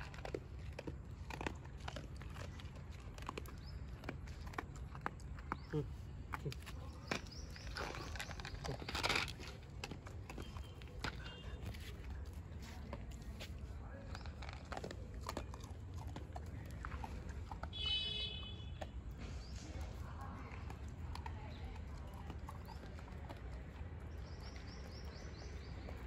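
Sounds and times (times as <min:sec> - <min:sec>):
dog crunching dry kibble: 0:00.0 - 0:26.0.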